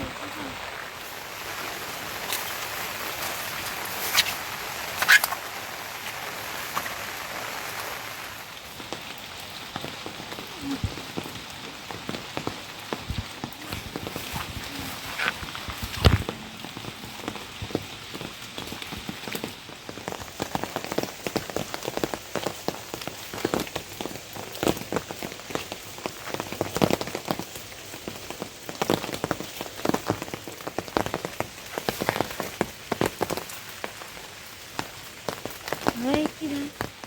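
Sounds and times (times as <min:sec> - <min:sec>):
raindrops pattering: 0:00.0 - 0:37.0
steady rain hiss: 0:00.0 - 0:37.0.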